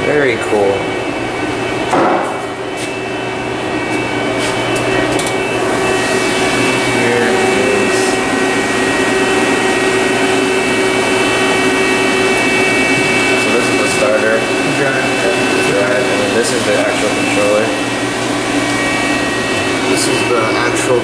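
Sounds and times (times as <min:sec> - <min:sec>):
machinery whirring hum with whine: 0:00.0 - 0:21.0.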